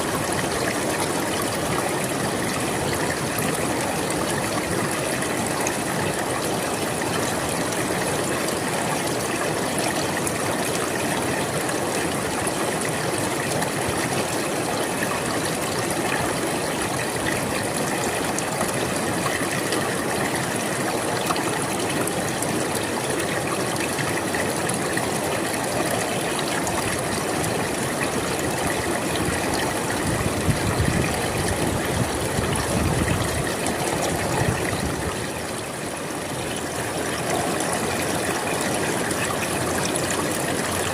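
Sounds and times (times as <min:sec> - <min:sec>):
river water rushing and splashing: 0:00.0 - 0:40.9.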